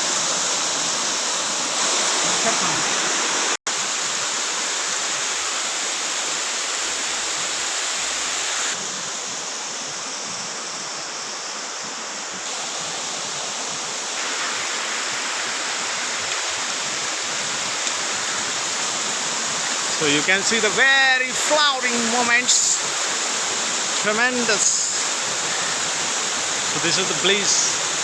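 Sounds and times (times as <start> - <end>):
waterfall rushing: 0.0 - 10.5, 11.4 - 28.0.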